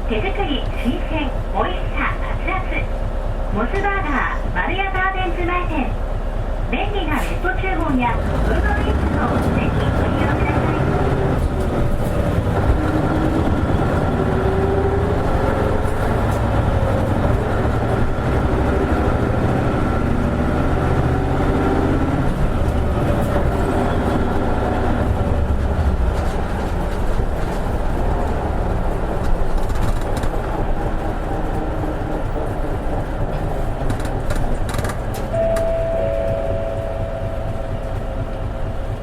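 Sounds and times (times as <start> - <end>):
bus diesel engine: 0.0 - 39.0
road noise: 0.0 - 39.0.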